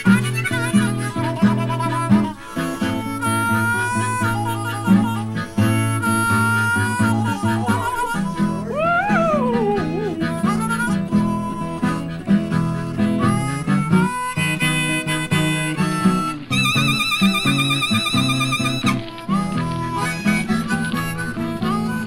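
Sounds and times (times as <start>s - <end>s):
guitar accompaniment: 0.0s - 22.0s
harmonica playing: 0.0s - 22.0s.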